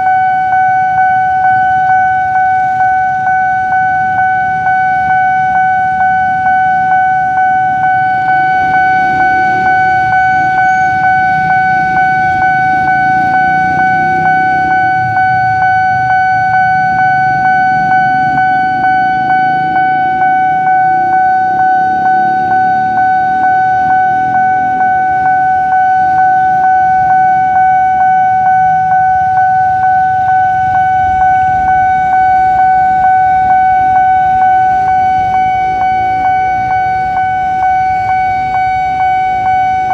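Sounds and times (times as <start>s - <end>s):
level crossing warning bell: 0.0s - 39.9s
motorcycles idling: 0.7s - 39.9s.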